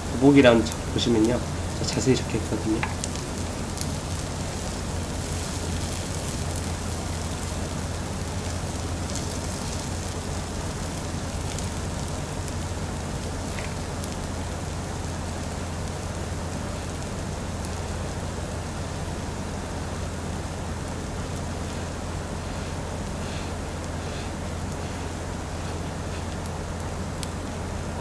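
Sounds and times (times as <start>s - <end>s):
fried rice sizzling on grill pan: 0.0s - 28.0s.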